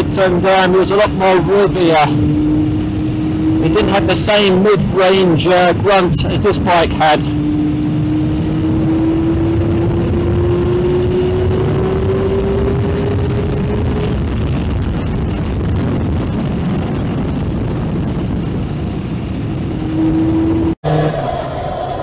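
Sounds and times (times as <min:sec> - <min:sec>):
heavy wind and road rush: 0:00.0 - 0:22.0.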